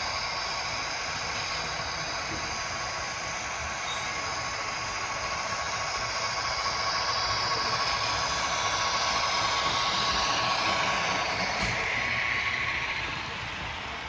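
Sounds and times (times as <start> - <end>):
model train running: 0.0 - 14.0.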